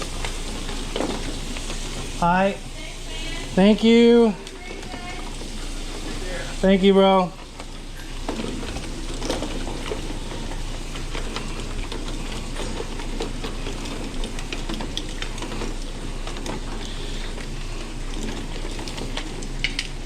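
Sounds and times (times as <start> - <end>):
pots boiling: 0.0 - 20.0
utensils and dishes clinking: 0.0 - 20.0.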